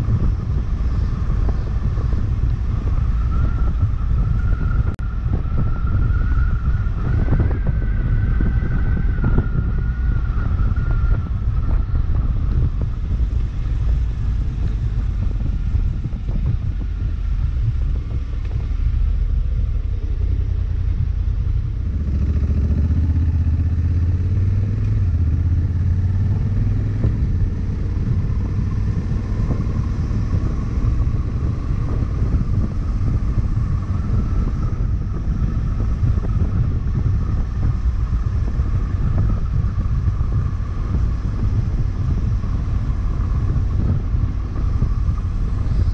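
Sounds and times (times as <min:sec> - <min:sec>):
motorcycle engine running: 0:00.0 - 0:45.9
road noise: 0:00.0 - 0:45.9.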